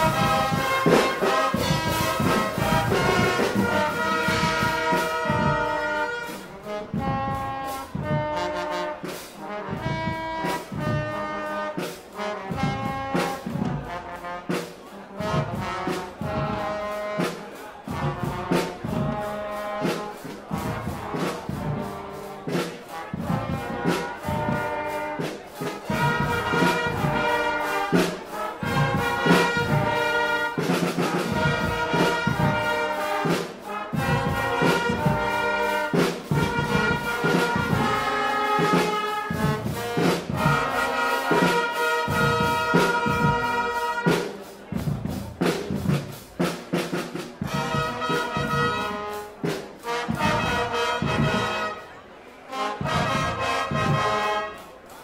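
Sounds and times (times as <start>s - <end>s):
bass drums and snare drums: 0.0s - 55.0s
trumpets and trombones: 0.0s - 55.0s.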